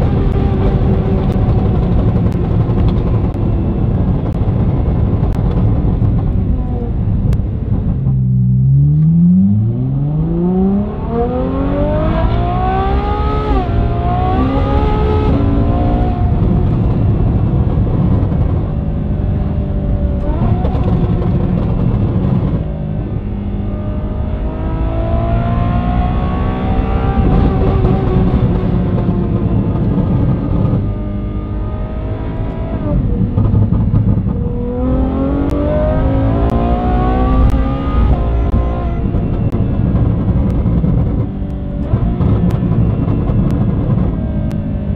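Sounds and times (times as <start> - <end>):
car engine accelerating hard: 0.0 - 44.9.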